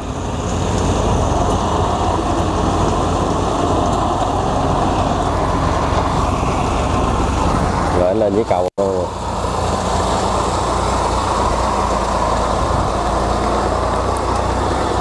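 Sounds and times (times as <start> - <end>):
tracked vehicle engine running: 0.0 - 15.0.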